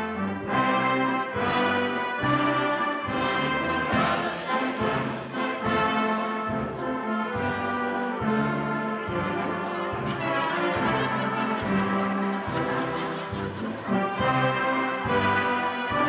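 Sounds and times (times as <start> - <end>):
brass band playing: 0.0 - 16.0.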